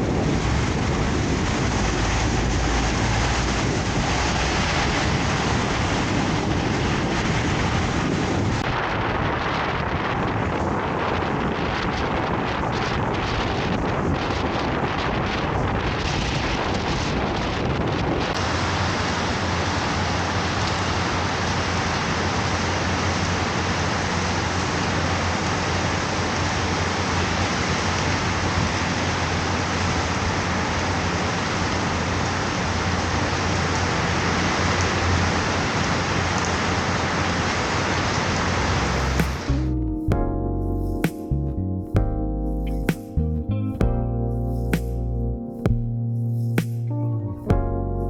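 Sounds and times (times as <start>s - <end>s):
strong wind rushing: 0.0s - 43.3s.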